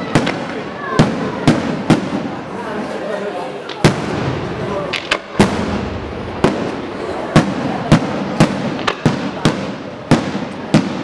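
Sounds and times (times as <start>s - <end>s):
steady background din: 0.0s - 11.0s.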